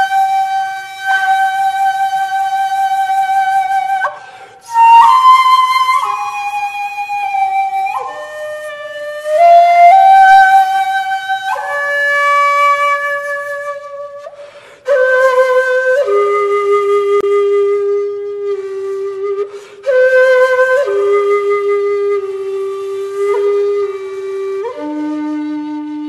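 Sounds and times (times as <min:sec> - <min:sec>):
bamboo flute melody: 0:00.0 - 0:26.0.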